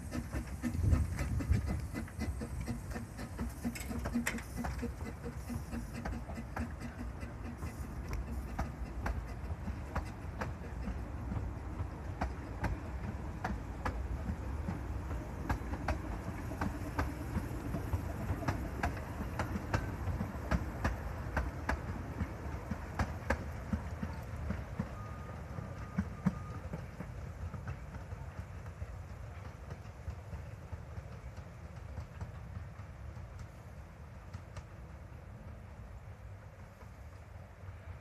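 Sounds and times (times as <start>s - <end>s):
low train rumble: 0.0s - 38.0s
train wheels clicking over rail joints: 0.0s - 38.0s.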